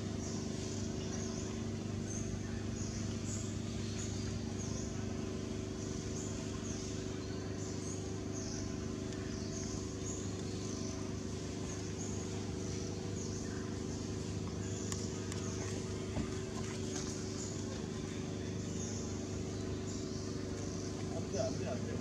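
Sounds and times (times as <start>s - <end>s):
engine idling hum: 0.0s - 22.0s.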